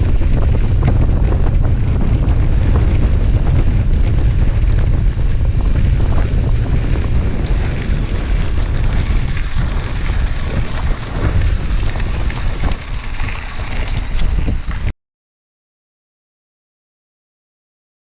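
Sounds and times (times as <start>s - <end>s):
bicycle rattles and clicks: 0.0s - 14.9s
wind buffeting microphone: 0.0s - 14.9s.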